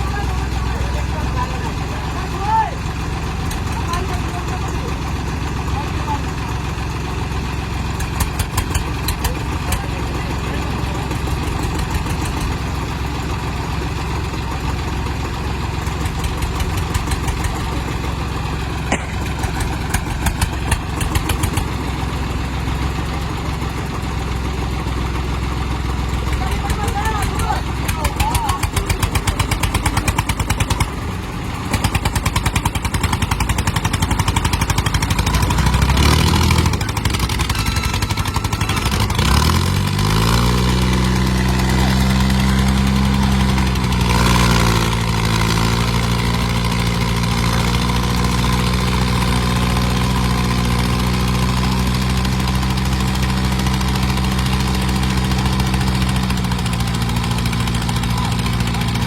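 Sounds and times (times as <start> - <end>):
diesel tractor engine revving: 0.0 - 59.0.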